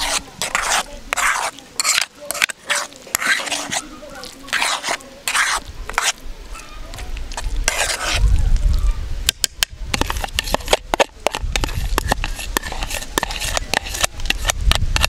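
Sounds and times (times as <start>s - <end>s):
metal spoon scraping pan: 0.0s - 6.2s, 7.3s - 8.2s, 9.9s - 15.0s.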